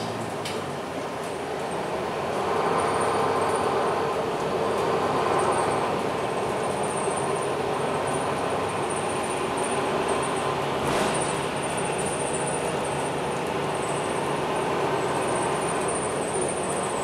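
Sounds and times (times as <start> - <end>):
bus engine and road rumble: 0.0 - 17.0
passing bus rush: 0.0 - 17.0.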